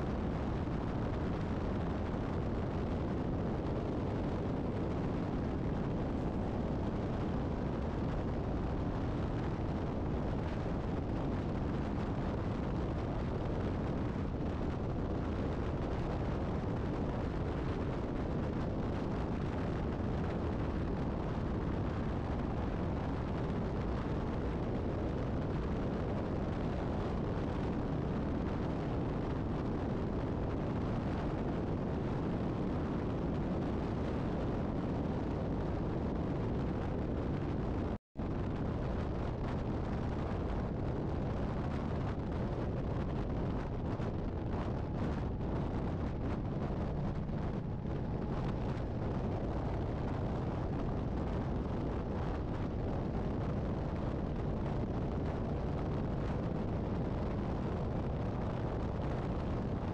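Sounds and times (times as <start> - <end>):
wind and tyre noise: 0.0 - 59.9.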